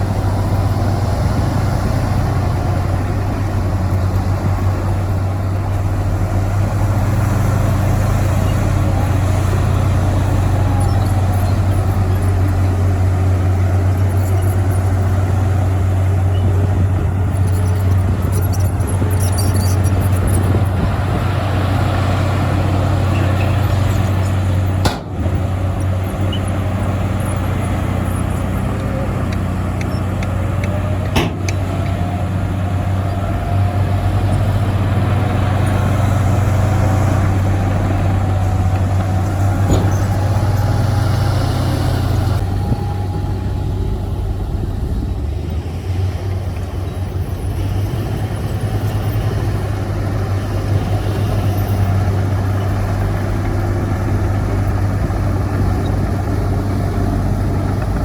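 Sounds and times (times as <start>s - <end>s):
heavy diesel machinery drone: 0.0s - 58.0s.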